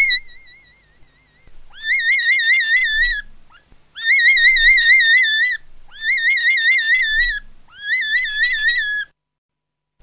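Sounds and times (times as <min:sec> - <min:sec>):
high wavering trilling whistle: 0:00.0 - 0:03.3, 0:04.0 - 0:09.1.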